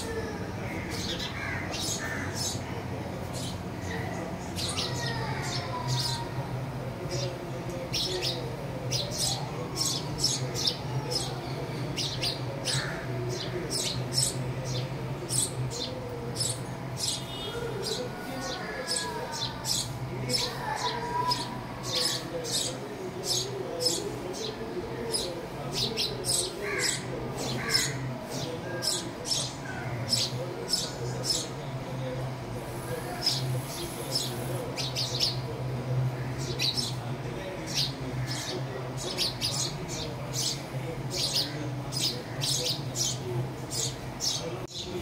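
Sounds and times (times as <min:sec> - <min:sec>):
sparrow chirping: 0:00.7 - 0:06.3, 0:07.1 - 0:31.6, 0:32.7 - 0:35.5, 0:36.3 - 0:45.0.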